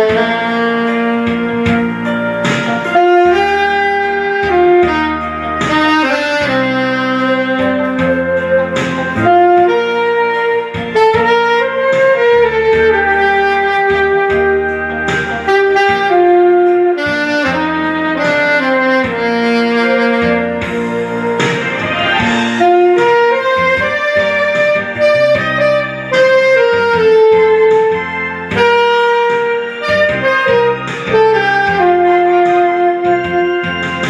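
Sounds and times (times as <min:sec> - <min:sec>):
backing accompaniment: 0:00.0 - 0:34.0
saxophone ballad melody: 0:00.0 - 0:34.0.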